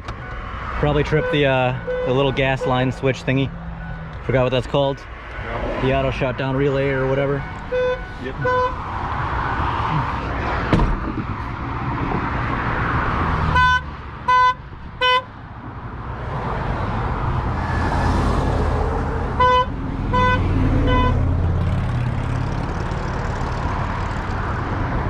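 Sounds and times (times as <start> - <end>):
highway traffic passing: 0.0 - 25.0.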